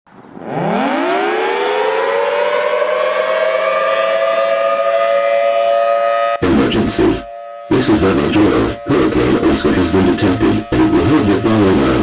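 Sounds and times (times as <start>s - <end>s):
civil defense siren wailing: 0.2s - 12.0s.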